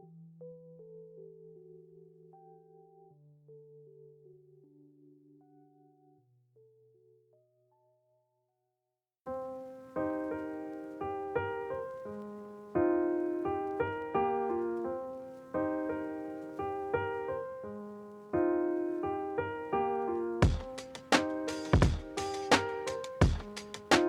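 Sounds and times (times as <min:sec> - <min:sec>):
piano-like keyboard chords: 0:00.0 - 0:06.2, 0:09.3 - 0:24.0.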